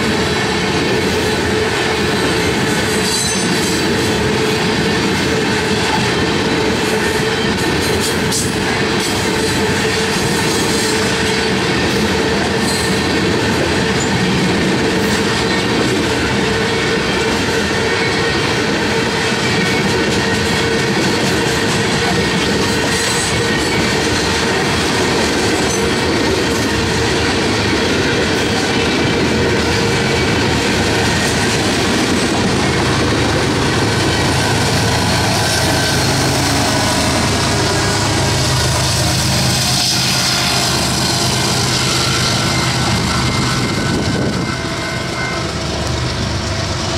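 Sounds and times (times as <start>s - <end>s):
diesel locomotive engine hum: 0.0s - 46.9s
train wheels on rails: 0.0s - 46.9s.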